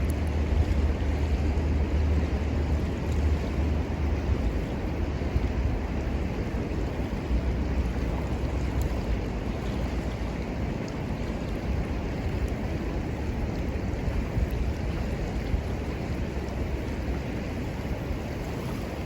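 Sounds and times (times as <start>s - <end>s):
river rushing: 0.0s - 19.0s
wind on microphone: 0.0s - 19.0s.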